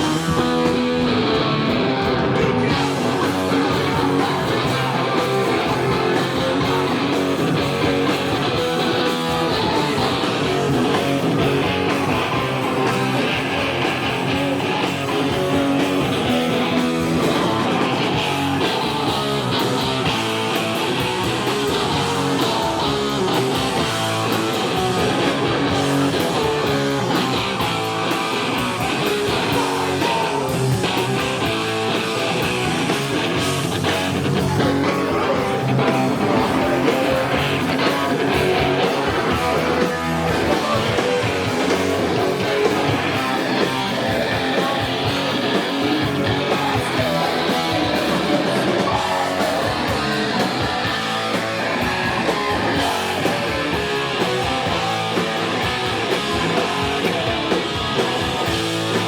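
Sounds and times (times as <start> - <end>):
loud electric guitars: 0.0 - 59.0
rock band playing: 0.0 - 59.0.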